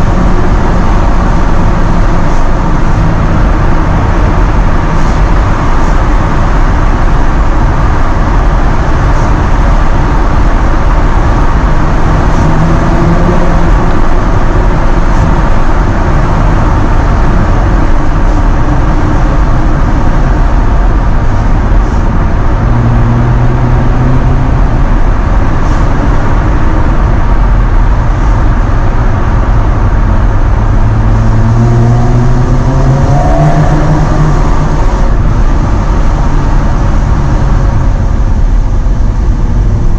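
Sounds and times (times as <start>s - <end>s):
car engine and exhaust accelerating: 0.0s - 39.9s
road noise: 0.0s - 39.9s.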